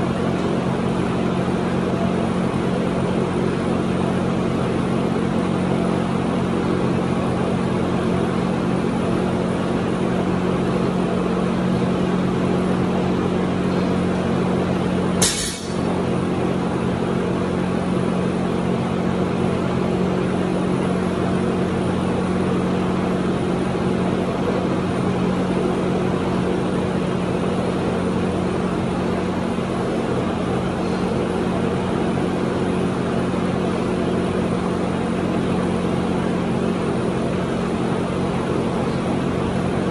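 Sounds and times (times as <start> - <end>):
loud mechanical drone: 0.0 - 39.9.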